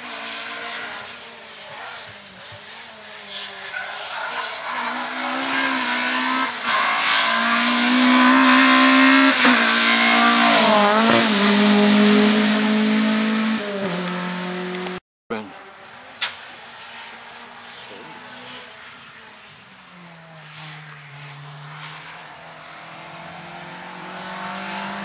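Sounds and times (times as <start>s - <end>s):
rally car engine passing: 0.0s - 25.0s.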